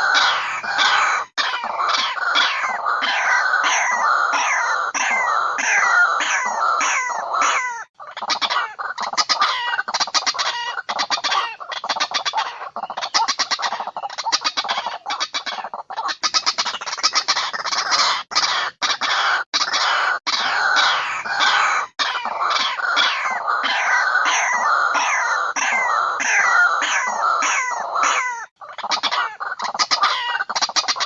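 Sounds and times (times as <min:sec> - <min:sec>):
waterhen calls: 0:00.0 - 0:31.0.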